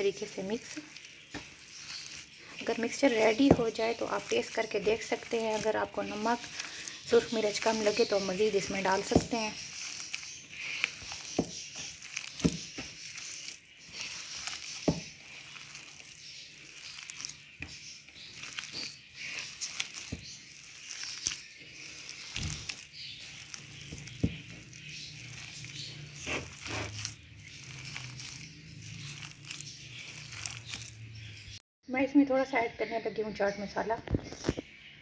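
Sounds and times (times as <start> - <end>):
hand squishing mashed potato: 0.0 - 31.5.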